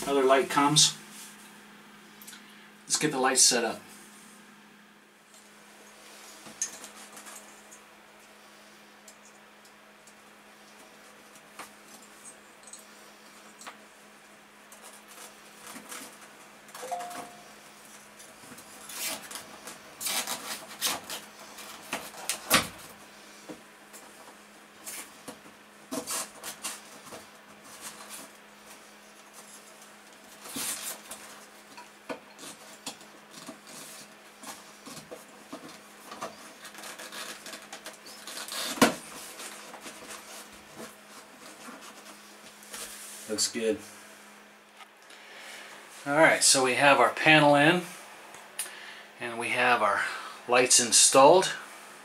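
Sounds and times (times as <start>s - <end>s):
rustles and scrapes of handling: 0.0s - 2.1s, 5.4s - 9.7s, 10.4s - 46.5s.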